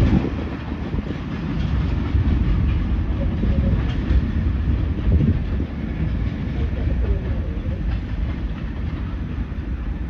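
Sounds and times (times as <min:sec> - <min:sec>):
freight train rumbling on track: 0:00.0 - 0:10.0.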